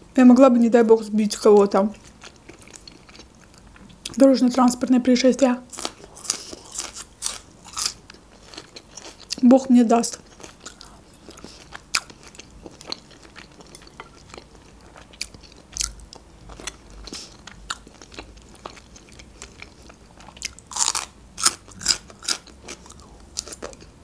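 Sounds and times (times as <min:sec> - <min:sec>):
wet chewing: 0:02.0 - 0:04.2, 0:05.7 - 0:09.4, 0:10.2 - 0:23.9.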